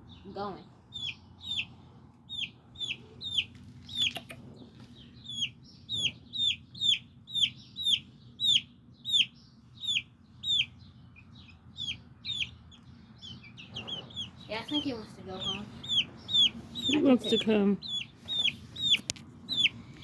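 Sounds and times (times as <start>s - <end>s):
chick peeping loudly: 0.9s - 20.0s.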